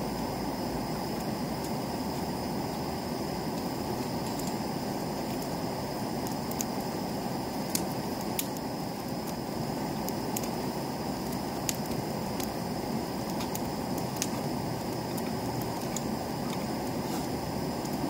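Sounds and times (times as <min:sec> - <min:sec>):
fire crackling and popping: 0:00.0 - 0:18.0
low rush of fire: 0:00.0 - 0:18.0.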